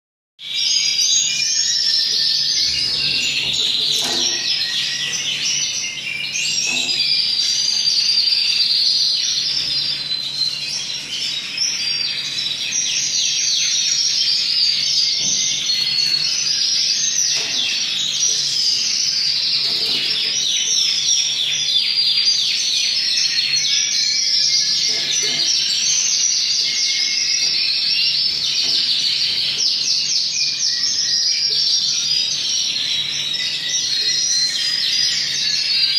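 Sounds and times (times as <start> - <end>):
canary singing trills: 0.4 - 35.9.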